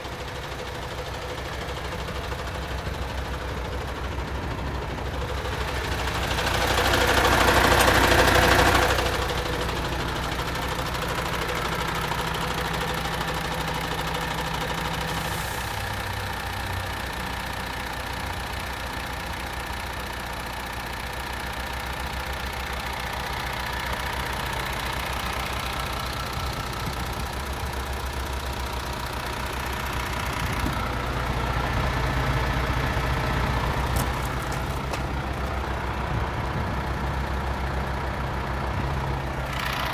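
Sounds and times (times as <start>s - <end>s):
diesel truck idling: 0.0s - 39.9s.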